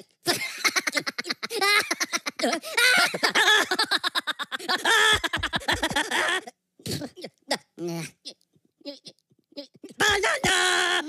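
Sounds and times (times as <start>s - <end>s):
cartoon voices giggling and babbling: 0.0s - 11.0s.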